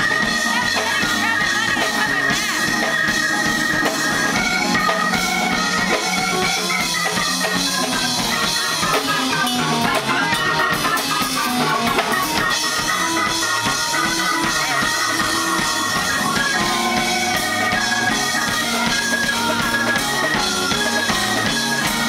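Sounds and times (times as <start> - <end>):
drum kit beat: 0.0 - 22.0
electric guitar: 0.0 - 22.0
electric keyboard organ notes: 0.0 - 22.0.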